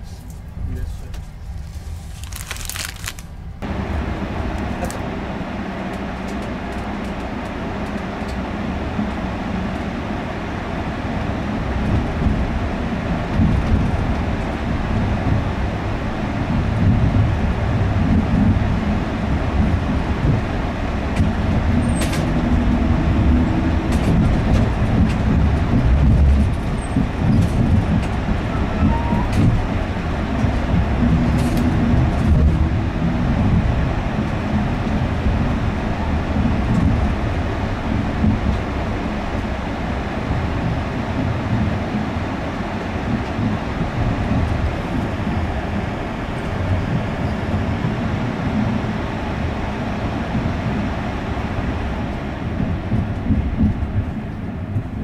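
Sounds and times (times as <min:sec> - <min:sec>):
low rumble of wheels on rail: 0:00.0 - 0:55.0.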